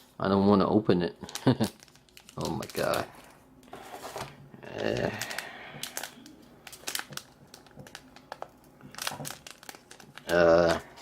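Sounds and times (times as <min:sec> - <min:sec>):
plastic wrapper crinkling: 0:01.2 - 0:11.0.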